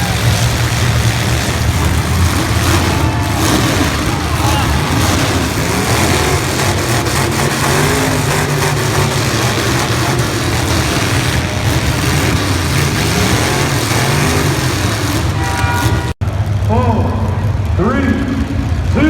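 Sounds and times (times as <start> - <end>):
low drone: 0.0 - 18.9
car engines revving loudly: 0.0 - 19.0.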